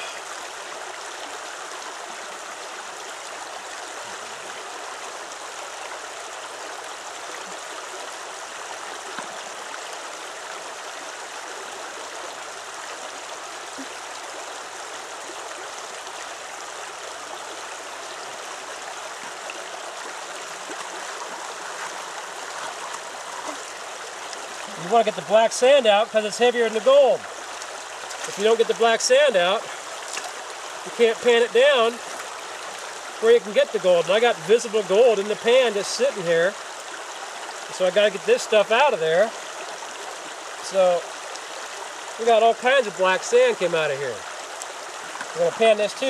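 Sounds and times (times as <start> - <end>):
river running over rocks: 0.0 - 46.0.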